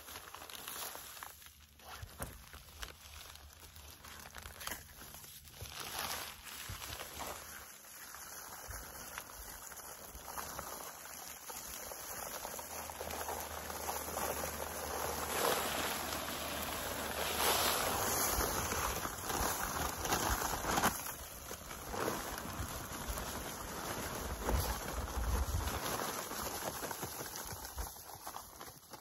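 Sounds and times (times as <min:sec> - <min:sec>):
dry concrete mix pouring: 0:00.0 - 0:29.0.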